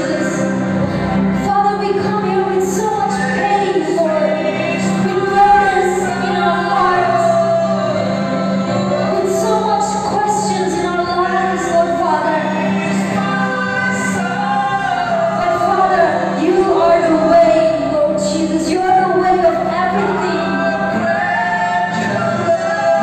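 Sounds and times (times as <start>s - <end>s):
women singing into microphones: 0.0s - 0.7s, 1.4s - 23.0s.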